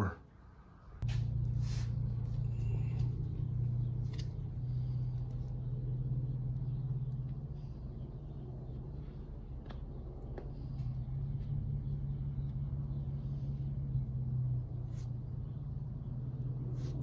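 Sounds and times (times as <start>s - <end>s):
low machine hum: 0.3s - 17.0s.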